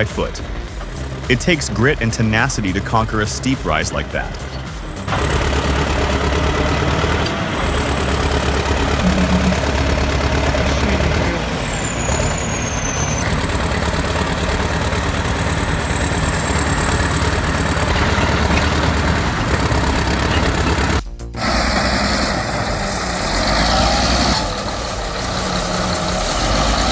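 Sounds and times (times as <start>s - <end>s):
bulldozer diesel engine running: 0.0s - 26.9s
thin high whine: 0.0s - 26.9s.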